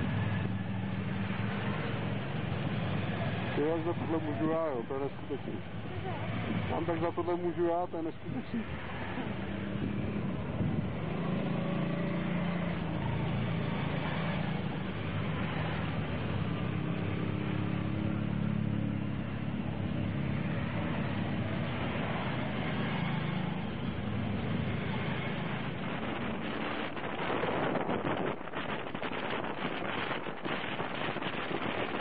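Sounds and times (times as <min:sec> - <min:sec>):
motorcycles riding past: 0:00.0 - 0:32.0.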